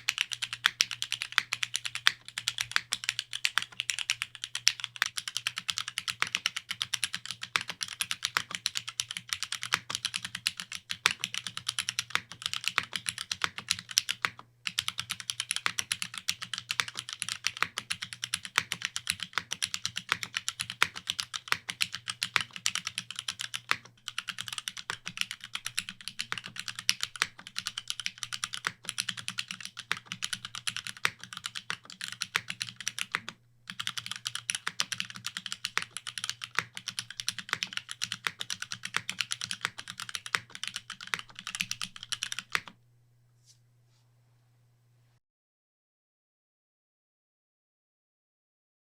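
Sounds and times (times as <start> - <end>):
mechanical keyboard typing: 0.0 - 42.8.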